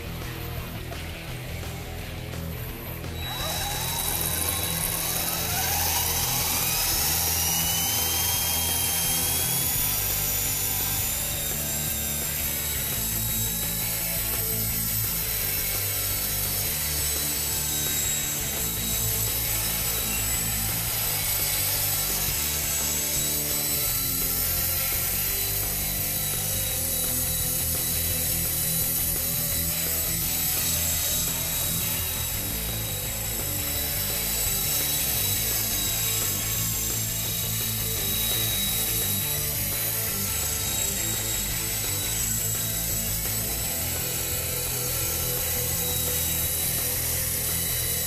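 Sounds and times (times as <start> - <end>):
electric motor whine: 0.0 - 48.0
helicopter rotors whirring: 0.0 - 48.0.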